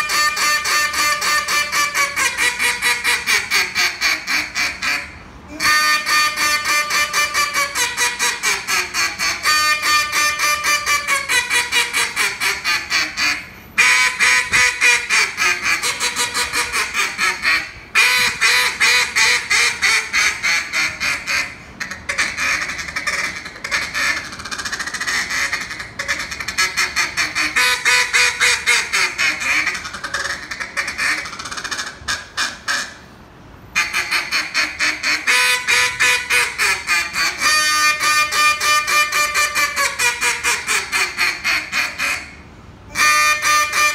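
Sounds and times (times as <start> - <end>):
duck call quacking: 0.0 - 33.1, 33.8 - 43.9.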